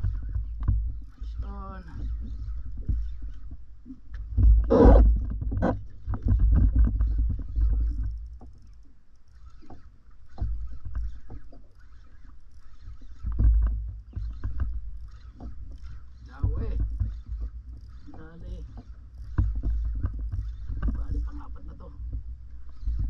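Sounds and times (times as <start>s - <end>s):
low rumble of wind and water: 0.0s - 23.0s
paddle and rod knocking: 0.0s - 23.0s.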